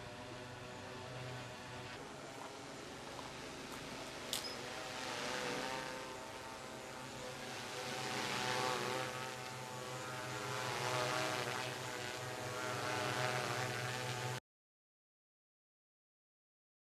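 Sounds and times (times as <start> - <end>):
drone rotors buzzing: 0.0 - 14.4.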